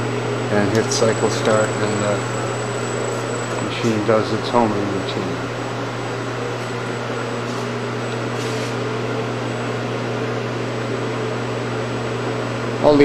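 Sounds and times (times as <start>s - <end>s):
milling machine humming: 0.0s - 12.9s.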